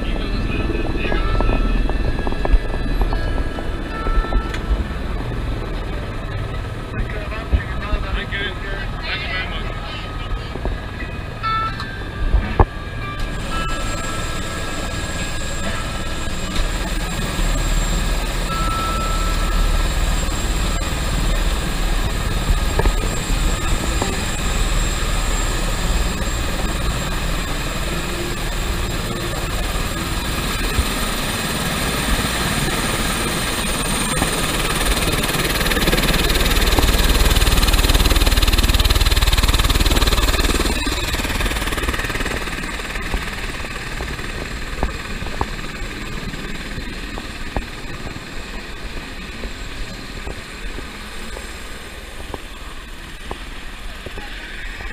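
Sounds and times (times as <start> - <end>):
helicopter engine and rotor running: 0.0 - 54.9.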